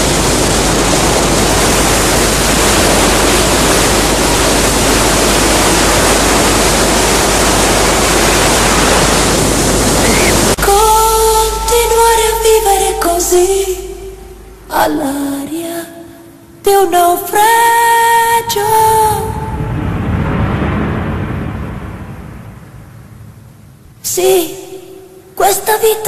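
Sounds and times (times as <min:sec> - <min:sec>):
loud steady rushing noise: 0:00.0 - 0:15.6, 0:17.6 - 0:24.3.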